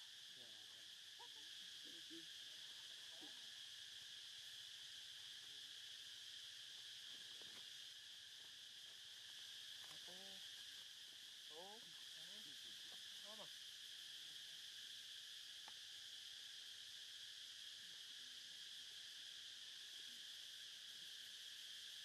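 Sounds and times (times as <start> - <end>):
high insect buzz: 0.0 - 22.0.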